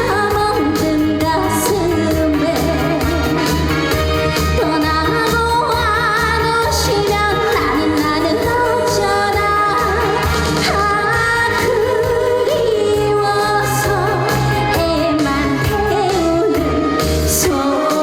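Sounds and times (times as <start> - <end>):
woman singing with vibrato: 0.0 - 3.8, 4.5 - 18.0
backing track with bass beat: 0.0 - 18.0.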